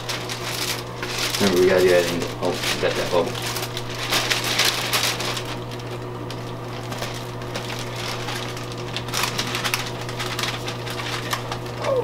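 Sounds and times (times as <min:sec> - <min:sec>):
plastic film crinkling: 0:00.0 - 0:12.0
steady low hum: 0:00.0 - 0:12.0.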